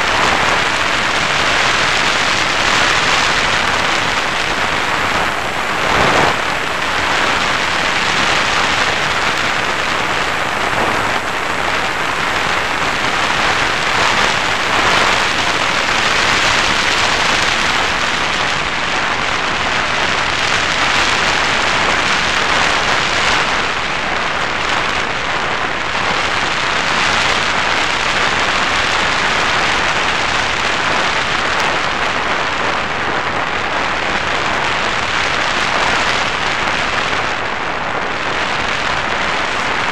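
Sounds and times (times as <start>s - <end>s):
rushing airflow hiss: 0.0s - 39.9s.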